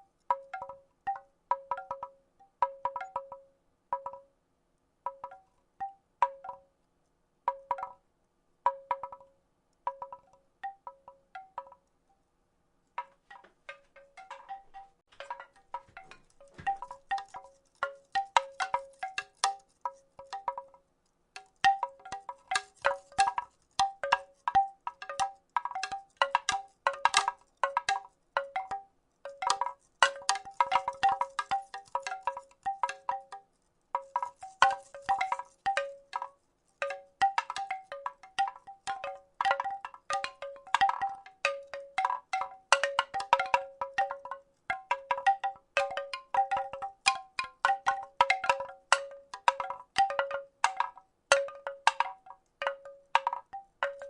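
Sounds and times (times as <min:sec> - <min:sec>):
wooden rattle being shaken: 0:00.0 - 0:04.2, 0:07.5 - 0:08.0, 0:08.7 - 0:09.3, 0:09.9 - 0:11.9, 0:13.0 - 0:20.8, 0:21.4 - 0:54.0.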